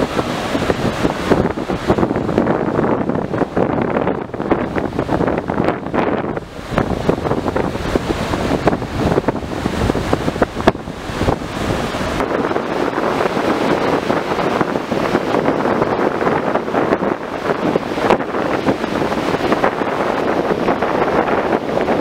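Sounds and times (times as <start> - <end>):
surf breaking on beach: 0.0 - 22.0
wind buffeting microphone: 0.0 - 22.0.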